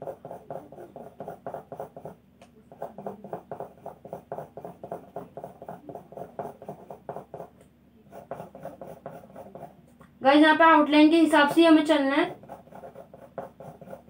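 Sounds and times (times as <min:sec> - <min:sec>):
pencil shading on paper: 0:00.0 - 0:09.8, 0:11.9 - 0:14.0.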